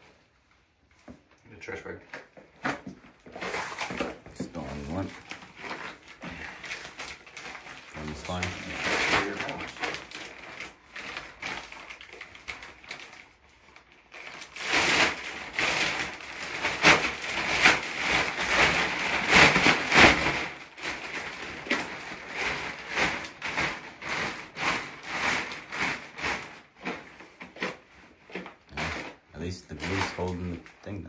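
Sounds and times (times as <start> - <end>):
toilet base scraping and cracking: 2.1 - 30.7.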